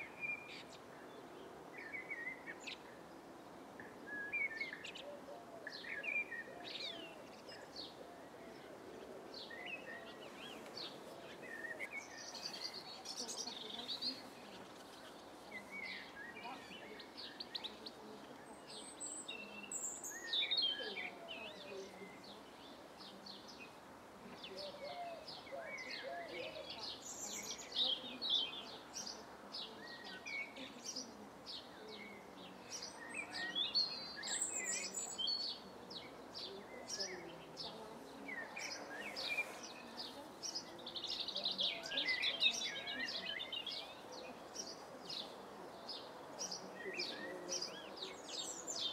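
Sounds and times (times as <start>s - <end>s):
birds chirping and trilling: 3.8s - 48.9s.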